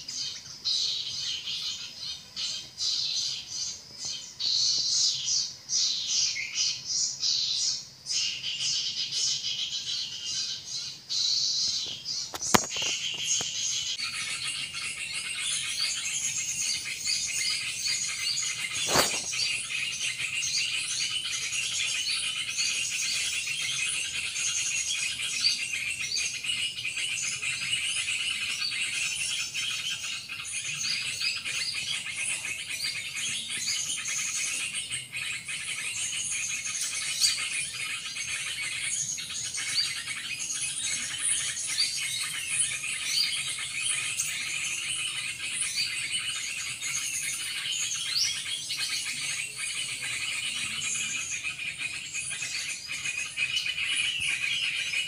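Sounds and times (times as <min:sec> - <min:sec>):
bird chirps: 0:00.0 - 0:55.0
insects chorus: 0:00.0 - 0:55.0.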